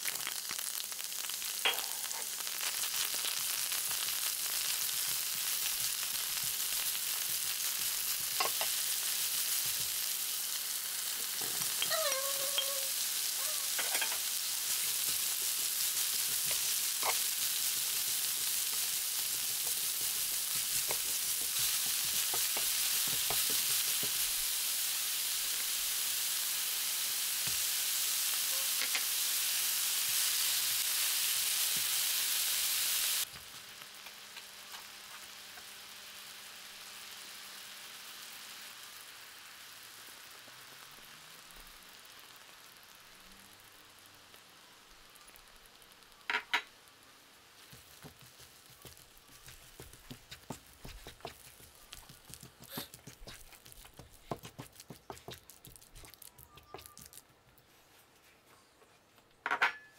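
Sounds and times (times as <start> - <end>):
vegetables sizzling in a pan: 0.0 - 57.9.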